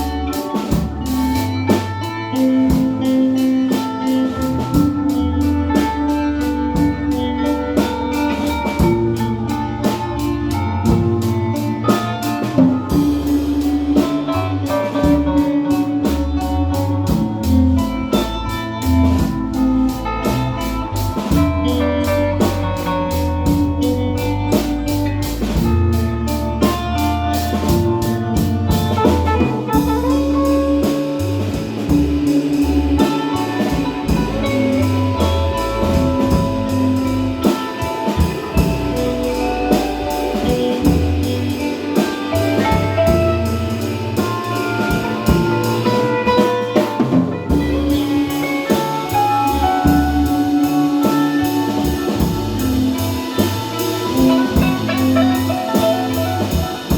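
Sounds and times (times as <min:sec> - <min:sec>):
jazzy band music: 0:00.0 - 0:56.9.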